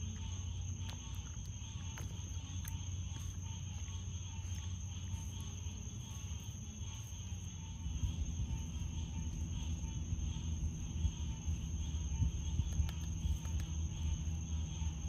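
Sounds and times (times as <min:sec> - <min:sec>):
crickets and night insects trilling: 0:00.0 - 0:15.0
low constant hum: 0:00.0 - 0:15.0.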